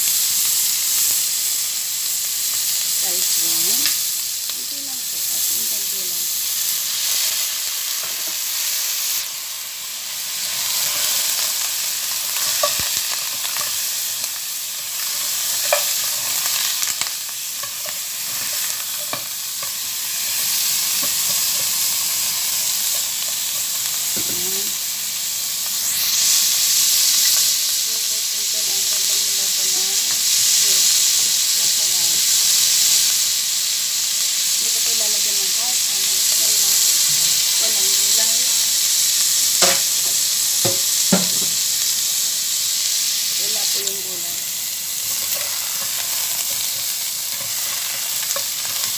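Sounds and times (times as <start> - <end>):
meat sizzling in a pot: 0.0 - 48.9.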